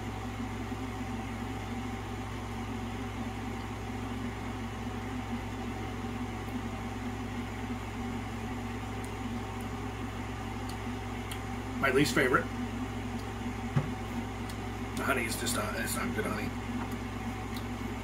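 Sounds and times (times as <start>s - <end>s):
faint steady whine: 0.0s - 18.0s
low mechanical hum: 0.0s - 18.0s.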